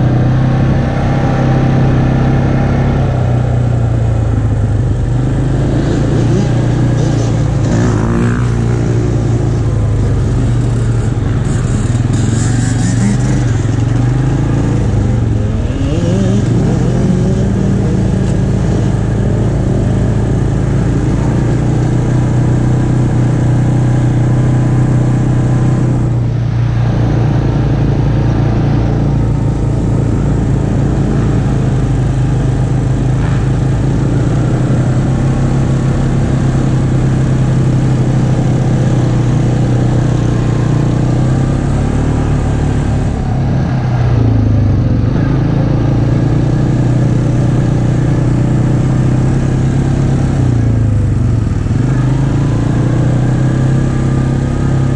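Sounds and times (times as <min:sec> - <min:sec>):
atv engine running: 0:00.0 - 0:54.9.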